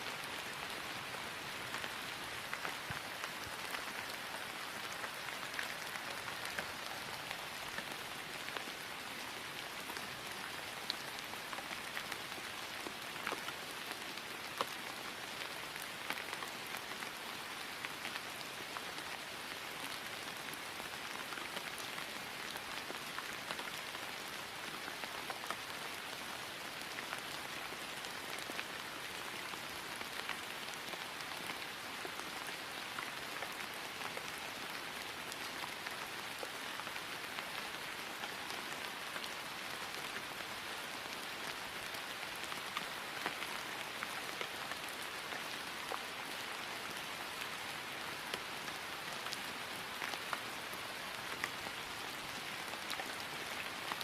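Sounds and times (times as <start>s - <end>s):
rain falling on grass: 0.0s - 54.0s.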